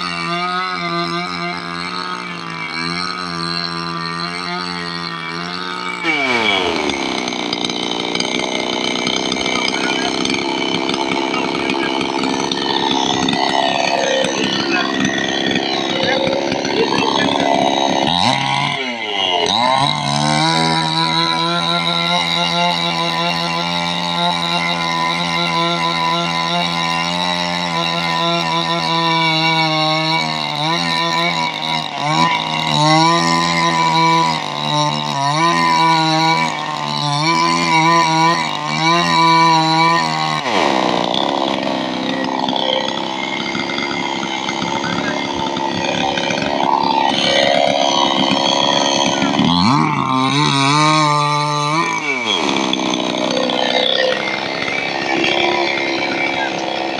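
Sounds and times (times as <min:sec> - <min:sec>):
chainsaw engine running: 0:00.0 - 0:56.9.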